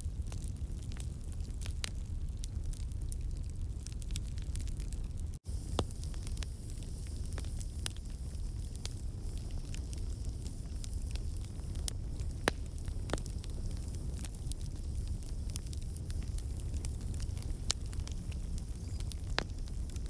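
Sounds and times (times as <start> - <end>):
burning logs crackling and popping: 0.0 - 20.0
flames rumbling: 0.1 - 20.0.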